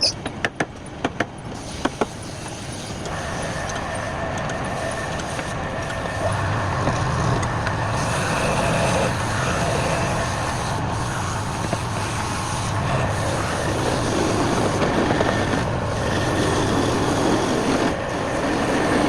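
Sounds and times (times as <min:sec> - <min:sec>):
wood lathe running: 0:01.6 - 0:19.0.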